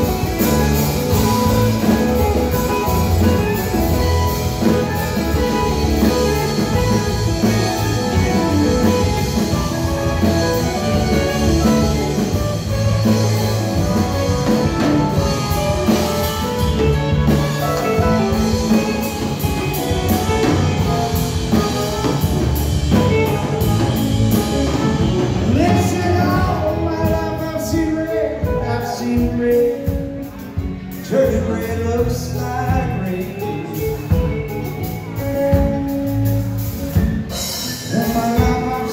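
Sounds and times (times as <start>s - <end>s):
drum kit: 0.0s - 38.9s
electric bass: 0.0s - 38.9s
electric guitars: 0.0s - 38.9s.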